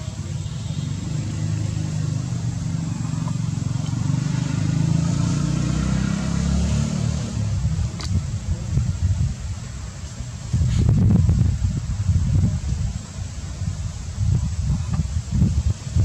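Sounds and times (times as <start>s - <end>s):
passing vehicle engine rumble: 0.0s - 16.0s.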